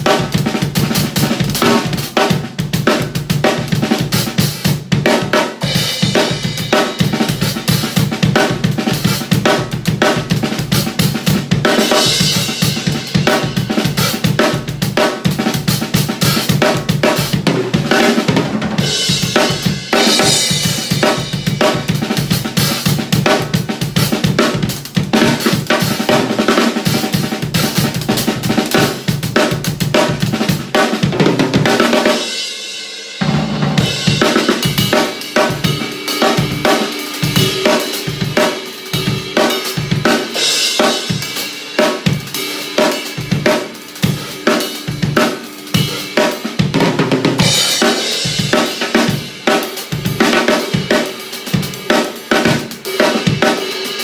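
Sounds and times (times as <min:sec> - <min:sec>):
drum kit groove: 0:00.0 - 0:54.0.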